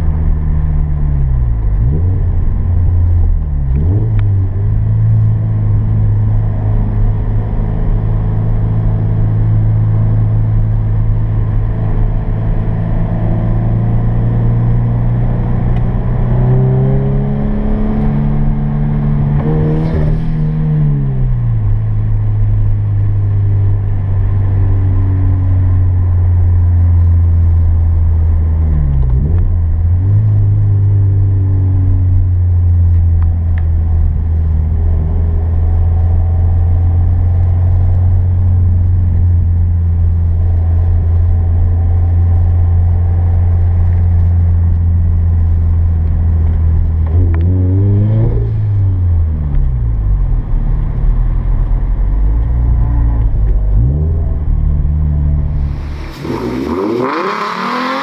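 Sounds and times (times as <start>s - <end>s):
car engine from inside cabin: 0.0s - 58.0s.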